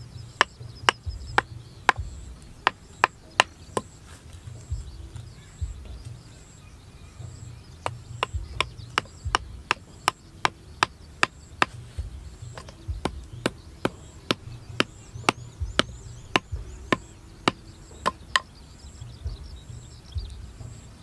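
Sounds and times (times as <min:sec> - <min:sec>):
hammer knocking on stakes: 0:00.0 - 0:06.3, 0:07.2 - 0:21.0.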